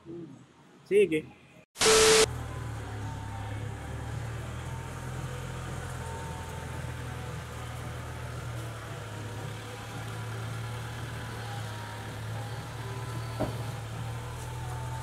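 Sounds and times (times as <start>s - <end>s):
car engine idling: 1.8s - 15.0s.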